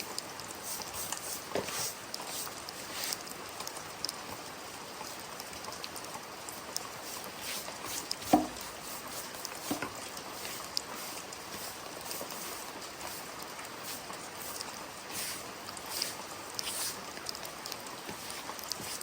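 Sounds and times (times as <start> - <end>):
drips and ticks: 0.0 - 19.0
steady rain falling: 0.0 - 19.0.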